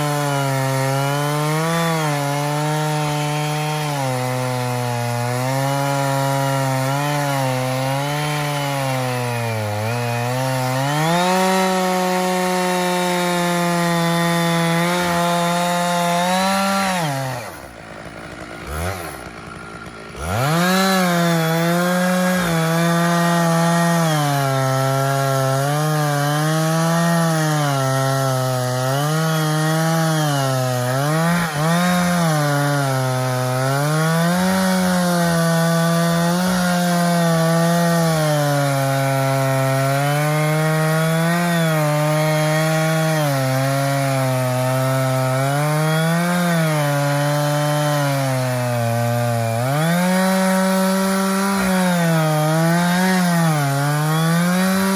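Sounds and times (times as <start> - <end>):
chainsaw cutting log under load: 0.0 - 54.9.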